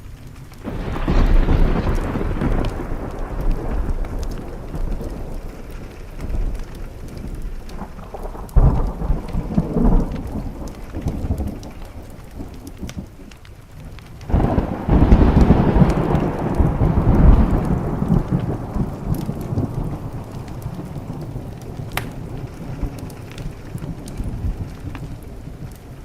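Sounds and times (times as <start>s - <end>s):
rain on a window: 0.0s - 26.0s
thunder rumbling: 0.0s - 26.0s.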